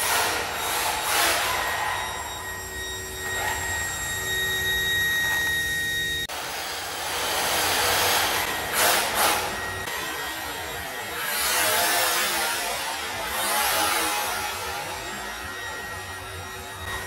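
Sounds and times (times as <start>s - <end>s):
rc car motor whine: 0.0s - 17.0s.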